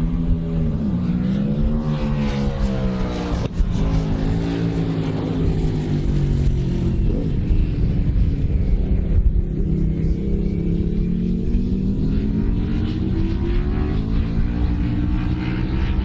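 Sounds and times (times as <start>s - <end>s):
racing motorcycle engine: 0.0s - 16.0s.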